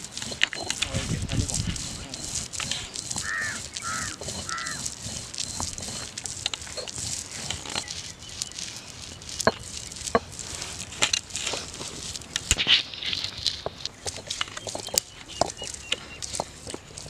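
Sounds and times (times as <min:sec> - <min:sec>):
stone roller crushing seeds: 0:00.0 - 0:17.0.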